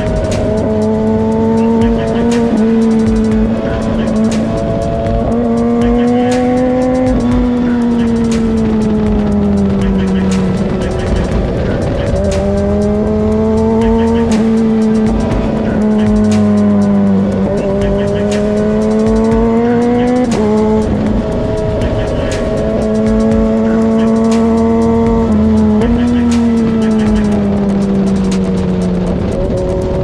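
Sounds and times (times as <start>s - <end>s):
background music with beat: 0.0s - 30.0s
motorcycle engine at high revs: 0.0s - 30.0s.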